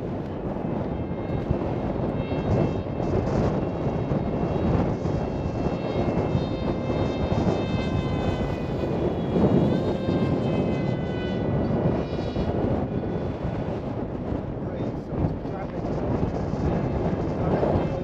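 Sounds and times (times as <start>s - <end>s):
high aircraft motor whine: 0.0s - 18.0s
wind buffeting microphone: 0.0s - 18.0s.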